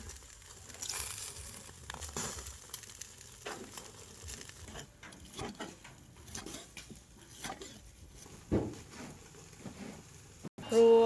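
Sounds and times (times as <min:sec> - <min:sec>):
rustling and crinkling handling: 0:00.0 - 0:10.5.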